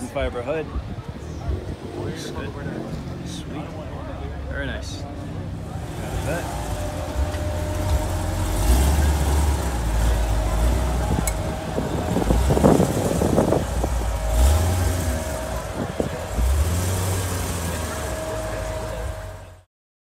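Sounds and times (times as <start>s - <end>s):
car engine rumbling: 0.0s - 19.7s.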